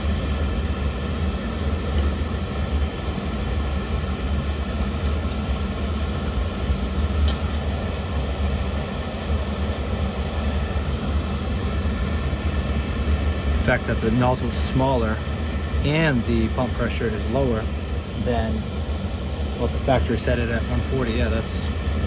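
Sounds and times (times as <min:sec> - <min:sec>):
low hum: 0:00.0 - 0:22.0
oil burner roaring: 0:00.0 - 0:22.0.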